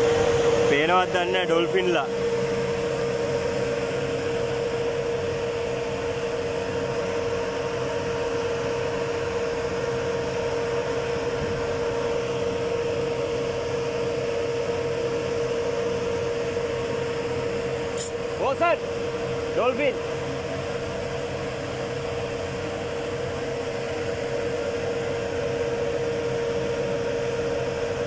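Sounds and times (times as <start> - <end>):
ship engine drone: 0.0 - 28.0.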